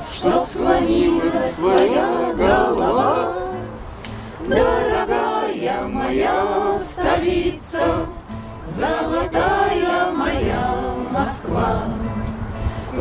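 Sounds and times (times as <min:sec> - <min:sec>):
acoustic guitar: 0:00.0 - 0:13.0
group singing in chorus: 0:00.0 - 0:13.0.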